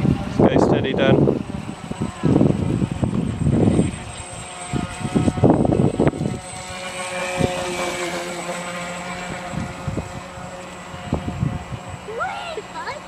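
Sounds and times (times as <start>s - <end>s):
model boat motor whine: 0.0s - 13.0s.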